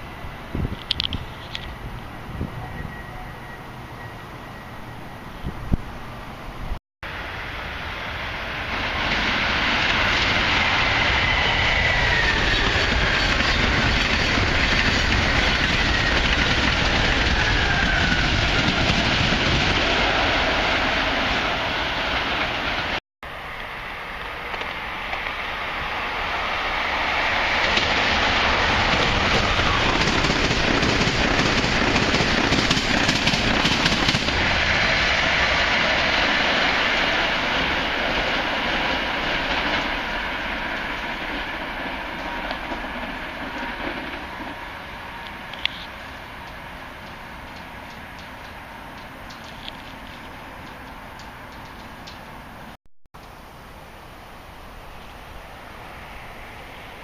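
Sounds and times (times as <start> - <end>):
electric trains passing at speed: 0.0 - 57.0.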